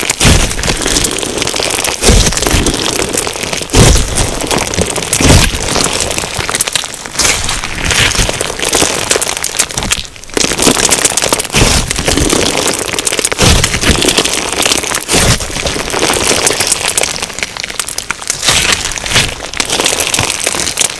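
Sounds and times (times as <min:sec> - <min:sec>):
crunchy slime crackling and popping: 0:00.0 - 0:20.9.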